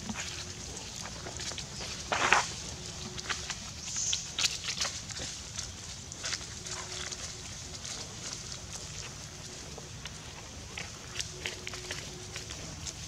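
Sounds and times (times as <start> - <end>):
rustling in dry leaves: 0.0 - 13.0.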